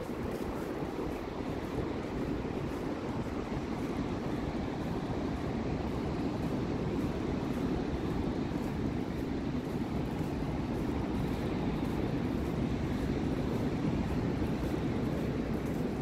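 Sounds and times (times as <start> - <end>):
ocean surf: 0.0 - 16.0
wind: 0.0 - 16.0.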